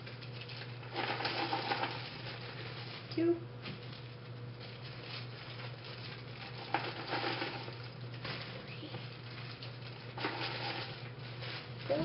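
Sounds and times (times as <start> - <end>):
cereal clattering: 0.0 - 12.0
plastic crinkling: 0.0 - 12.0
steady low hum: 0.0 - 12.0
cereal pouring into plastic bags: 0.2 - 3.2, 3.8 - 12.0.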